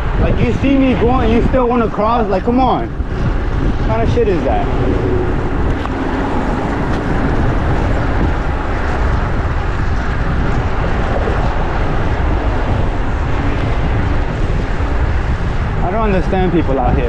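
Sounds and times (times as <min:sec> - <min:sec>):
street traffic: 0:00.0 - 0:17.0
wind rushing over microphone: 0:00.0 - 0:17.0.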